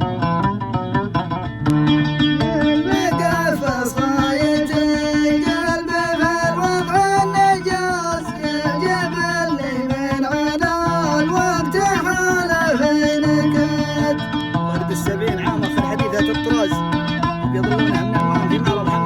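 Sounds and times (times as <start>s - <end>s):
low bass notes: 0.0s - 19.0s
plucked string melody: 0.0s - 19.0s.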